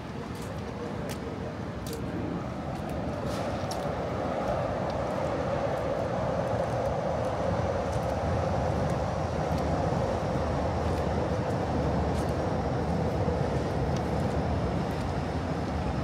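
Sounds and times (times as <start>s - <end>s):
passing vehicles rumble: 0.0s - 16.0s.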